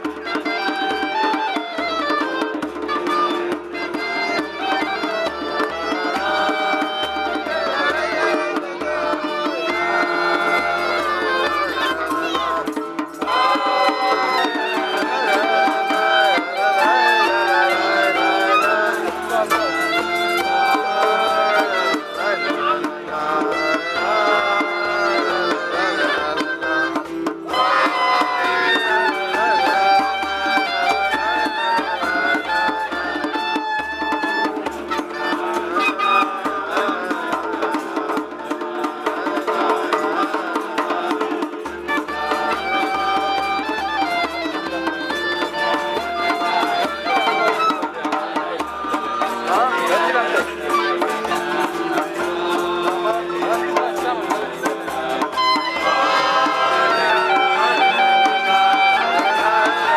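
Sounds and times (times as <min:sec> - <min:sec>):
clarinet melody: 0:00.0 - 0:37.3, 0:41.8 - 0:59.9
men singing: 0:00.0 - 0:59.9
steady beat: 0:01.9 - 0:59.9.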